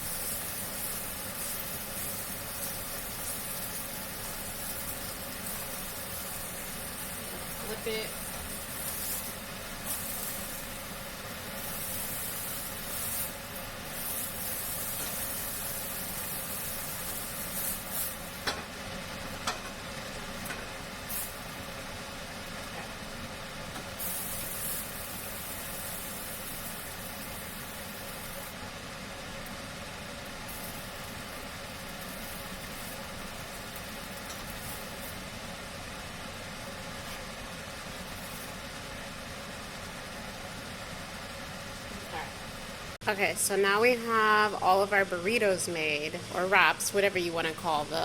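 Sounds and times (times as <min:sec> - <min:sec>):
food sizzling in frying pan: 0:00.0 - 0:43.0.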